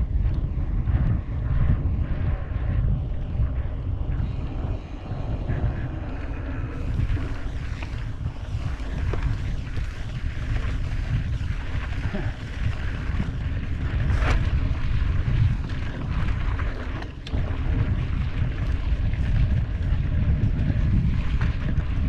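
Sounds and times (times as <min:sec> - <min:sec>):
tyres rumbling on dirt track: 0:00.0 - 0:22.0
wind buffeting microphone: 0:00.0 - 0:22.0.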